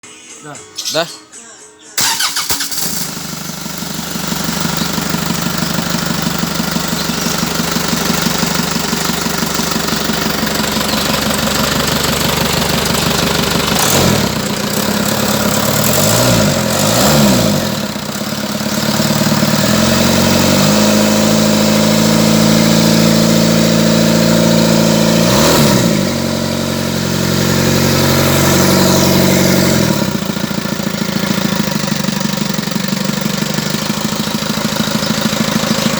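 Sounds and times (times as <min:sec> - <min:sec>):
car engine idling and revving: 0:02.0 - 0:35.9.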